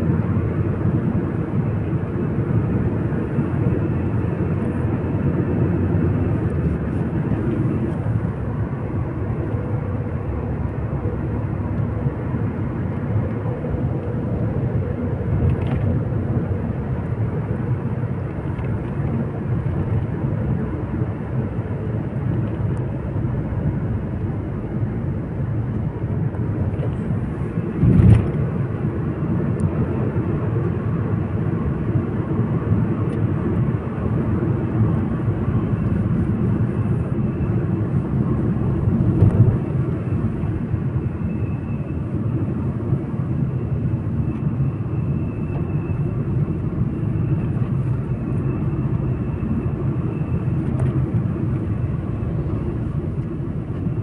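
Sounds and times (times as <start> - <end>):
vehicle road rumble: 0.0 - 54.0.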